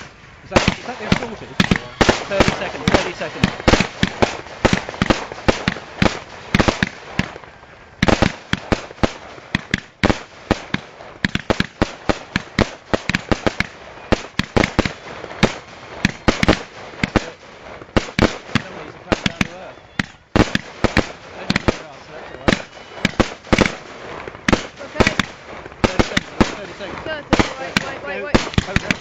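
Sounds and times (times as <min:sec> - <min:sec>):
fireworks bangs and cracks: 0:00.0 - 0:29.0.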